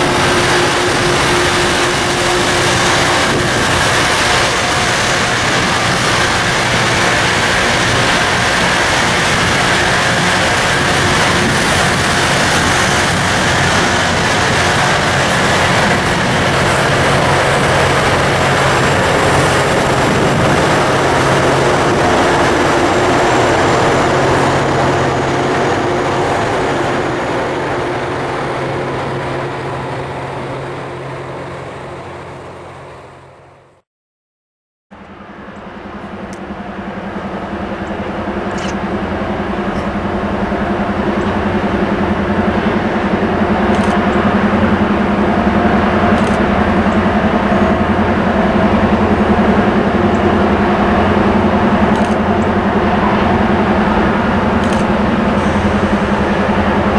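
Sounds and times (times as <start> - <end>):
low diesel hum: 0.0 - 33.8, 35.0 - 56.9
rail grinder train passing: 0.0 - 33.8, 35.0 - 56.9.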